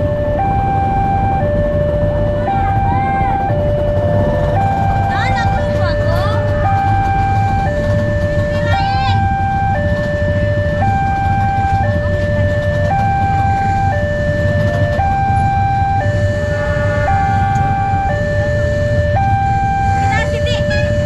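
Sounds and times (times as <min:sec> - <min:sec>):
steady low rumble: 0:00.0 - 0:21.0
two-tone crossing alarm: 0:00.0 - 0:21.0.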